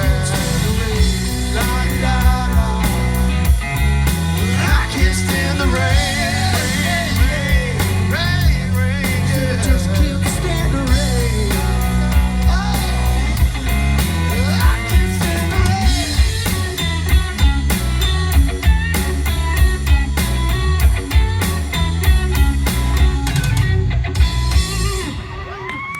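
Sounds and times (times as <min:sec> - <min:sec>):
heavy bass line: 0:00.0 - 0:25.5
bending lead melody: 0:00.0 - 0:25.7
drums keeping a steady beat: 0:00.0 - 0:25.9.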